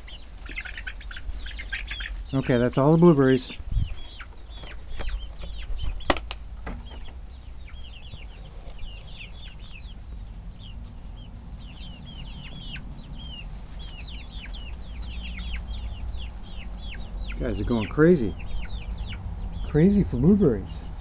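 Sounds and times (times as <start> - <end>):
chickens peeping: 0.0 - 21.0
steady low rumble: 0.4 - 21.0.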